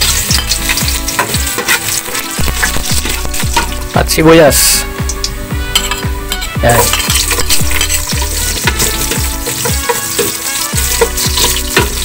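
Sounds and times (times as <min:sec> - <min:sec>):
spoon stirring in pot: 0:00.0 - 0:03.9, 0:05.1 - 0:12.0
background music with steady beat: 0:00.0 - 0:12.0
garlic and onion sizzling in oil: 0:00.0 - 0:12.0.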